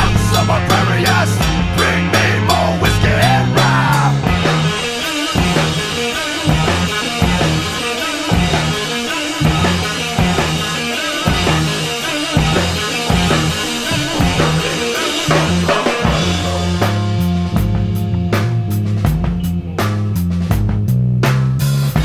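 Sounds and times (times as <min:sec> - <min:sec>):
bass: 0:00.0 - 0:22.0
drum kit beat: 0:00.0 - 0:22.0
guitar: 0:00.0 - 0:22.0.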